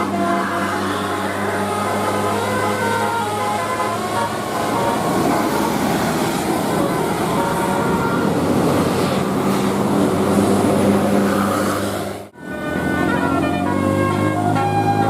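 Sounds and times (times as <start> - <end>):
bus engine and road rumble: 0.0 - 15.0
multi-tone bus horn: 0.0 - 15.0.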